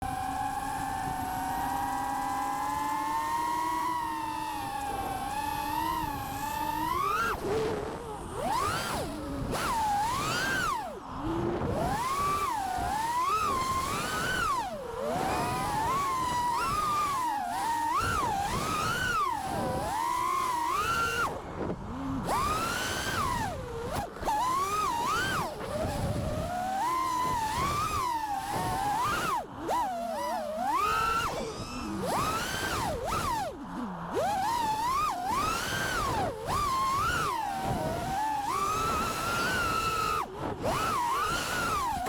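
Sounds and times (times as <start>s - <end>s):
drone motors whining: 0.0s - 42.0s.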